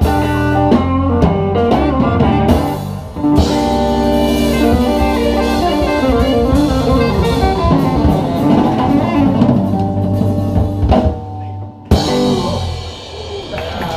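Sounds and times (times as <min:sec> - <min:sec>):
drum kit: 0:00.0 - 0:13.9
electric guitar: 0:00.0 - 0:13.9
live band playing blues-rock: 0:00.0 - 0:13.9.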